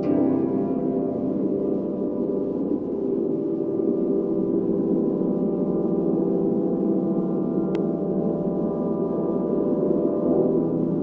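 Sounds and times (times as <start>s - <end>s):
gong-like ambient drone: 0.0s - 11.0s.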